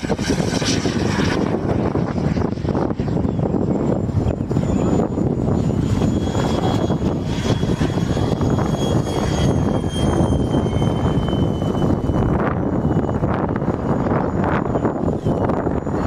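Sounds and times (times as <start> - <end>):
model jet engine whine: 0.0 - 16.0
rushing noise: 0.0 - 16.0.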